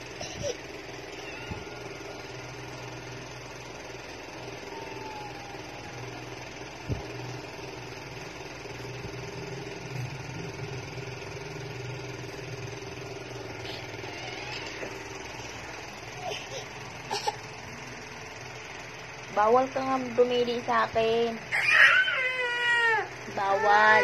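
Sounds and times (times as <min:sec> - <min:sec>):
small motor humming: 0:00.0 - 0:24.0.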